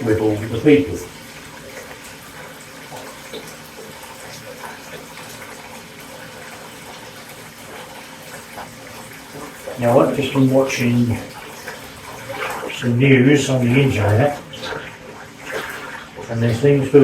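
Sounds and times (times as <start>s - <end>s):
tap running into bathtub: 0.0s - 17.0s.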